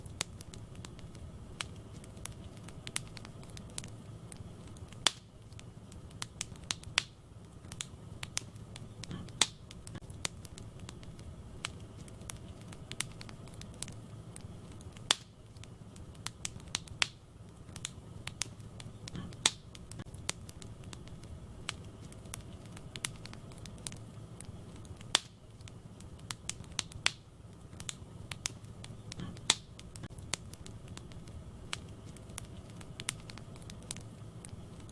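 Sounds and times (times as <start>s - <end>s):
fire flames rumbling: 0.0s - 34.9s
logs crackling and popping: 0.0s - 34.9s.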